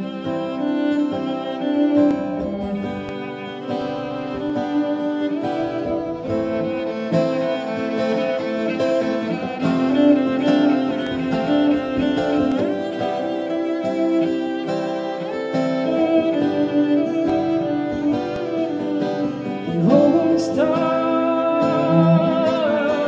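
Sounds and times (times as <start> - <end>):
acoustic guitar strumming: 0.0 - 23.0
bowed cello long notes: 0.0 - 23.0.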